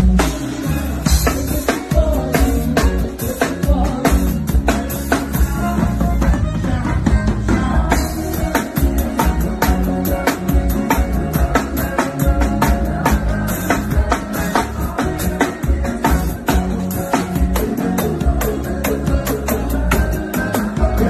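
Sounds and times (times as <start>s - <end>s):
drum kit beat: 0.0s - 21.0s
live band playing: 0.0s - 21.0s
person singing: 0.0s - 21.0s.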